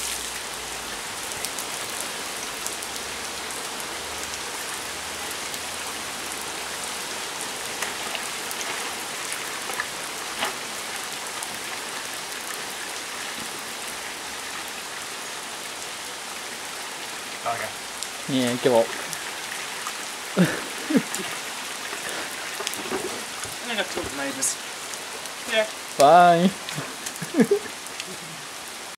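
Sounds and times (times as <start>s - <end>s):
water splashes: 0.0s - 28.4s
rain falling on wet road: 0.0s - 28.9s.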